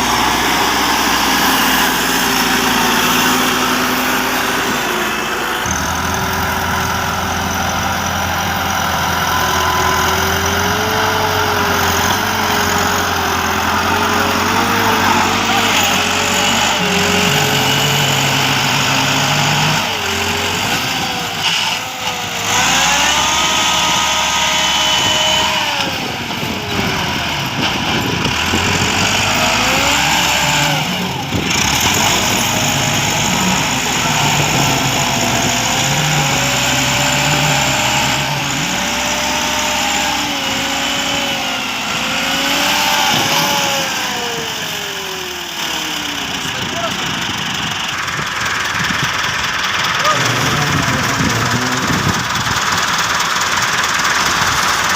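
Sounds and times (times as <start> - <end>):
excavator diesel engine under load: 0.0 - 54.9.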